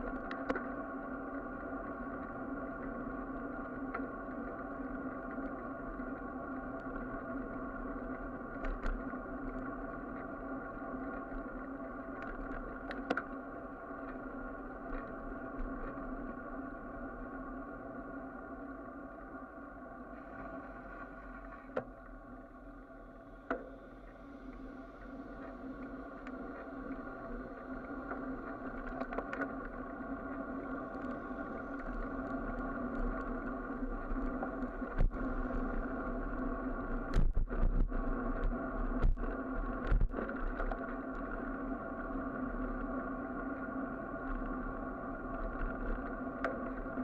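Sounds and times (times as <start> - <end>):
steady hum of held tones: 0.0 - 47.0.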